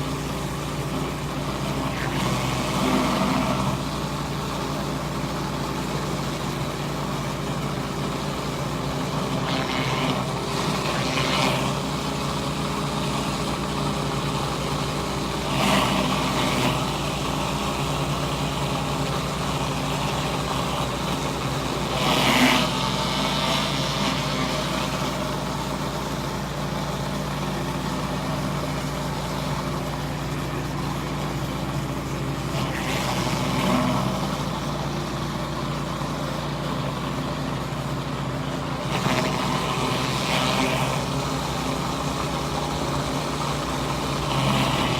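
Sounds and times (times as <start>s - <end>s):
pressure washer engine running: 0.0s - 44.9s.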